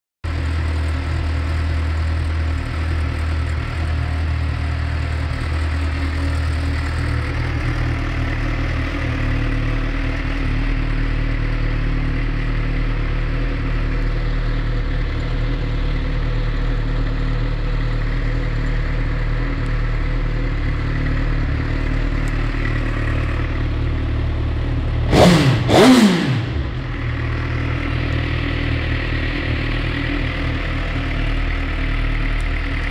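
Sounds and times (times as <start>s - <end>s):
motorcycle engine idling: 0.3s - 32.9s.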